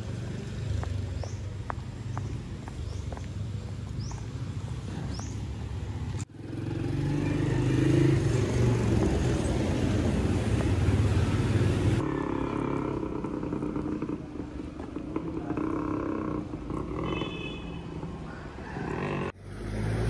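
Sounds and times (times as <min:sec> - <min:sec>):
outdoor background: 0:00.0 - 0:20.0
vehicle engine rumbling: 0:00.0 - 0:20.0.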